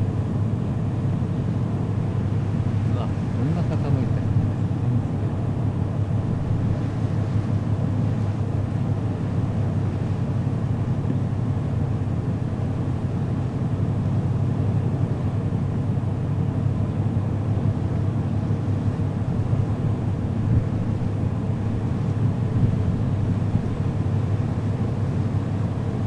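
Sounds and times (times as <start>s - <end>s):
ferry engines droning: 0.0s - 26.0s
wind and water rushing: 0.0s - 26.0s.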